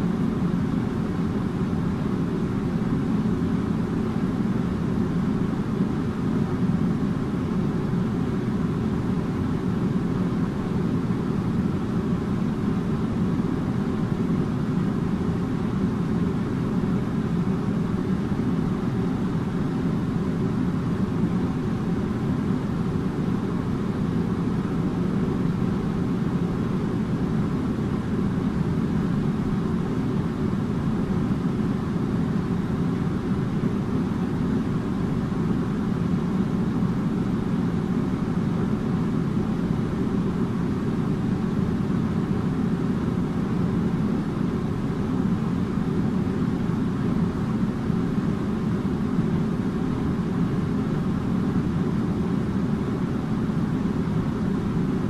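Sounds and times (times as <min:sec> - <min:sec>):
air conditioner fan: 0:00.0 - 0:55.0
faint hum: 0:00.0 - 0:55.0.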